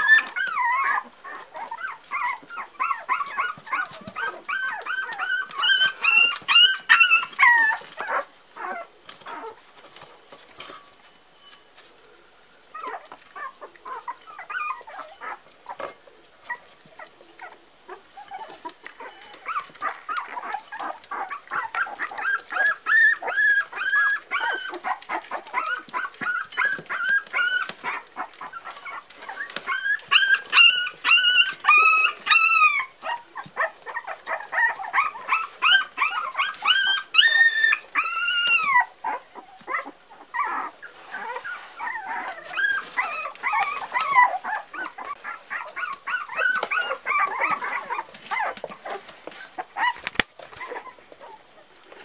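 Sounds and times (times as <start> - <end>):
puppies whimpering and whining: 0.0 - 10.8, 12.6 - 52.0.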